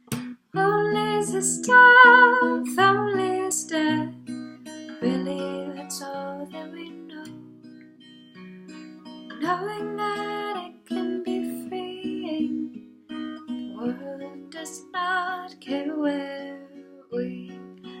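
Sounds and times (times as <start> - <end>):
acoustic guitar: 0.0 - 18.0.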